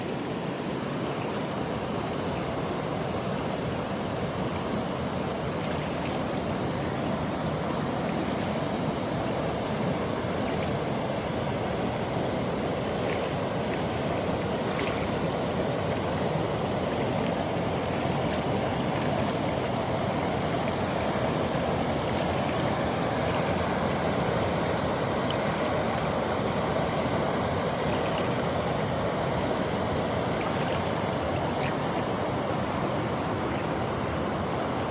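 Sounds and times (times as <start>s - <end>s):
river rushing: 0.0s - 34.9s.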